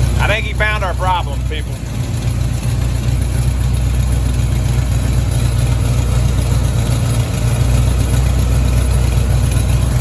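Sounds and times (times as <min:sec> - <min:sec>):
engine idling: 0:00.0 - 0:10.0
tailpipe rattling: 0:00.0 - 0:10.0.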